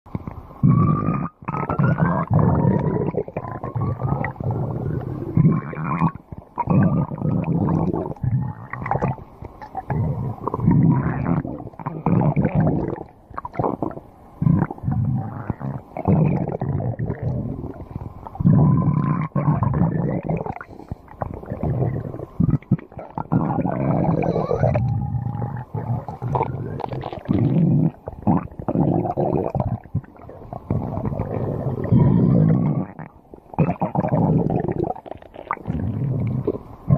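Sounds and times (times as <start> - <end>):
stomach growling: 0.1 - 36.9.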